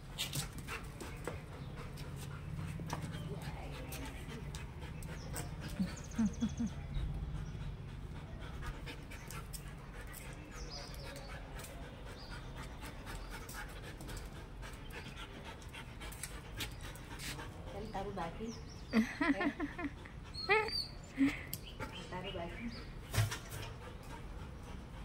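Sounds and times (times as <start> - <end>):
dog panting: 0.2 - 25.0.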